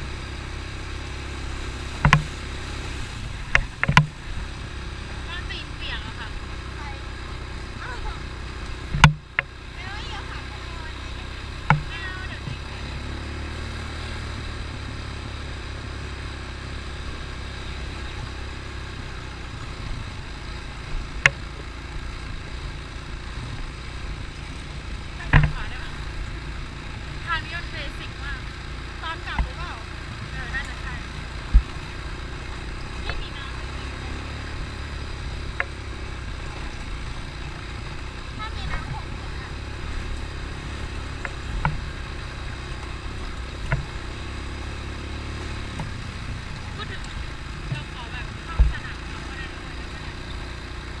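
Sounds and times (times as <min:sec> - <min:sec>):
atv engine droning: 0:00.0 - 0:51.0.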